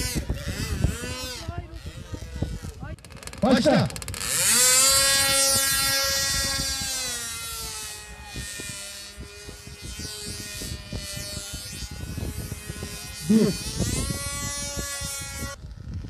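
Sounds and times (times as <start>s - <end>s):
model airplane engine buzzing: 0.0s - 16.0s.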